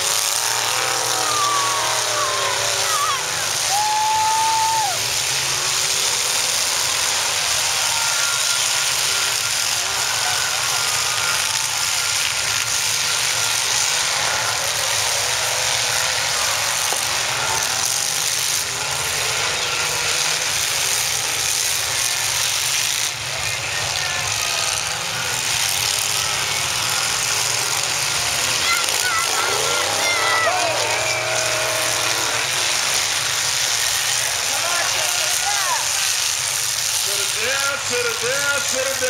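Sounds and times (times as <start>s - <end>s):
car engines revving: 0.0s - 39.0s
crowd noise: 0.0s - 39.0s.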